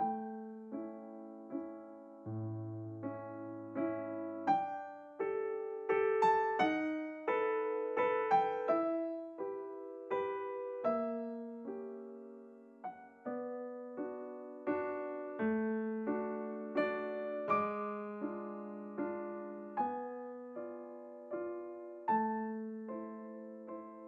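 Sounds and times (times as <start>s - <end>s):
slow piano chords: 0.0s - 24.0s.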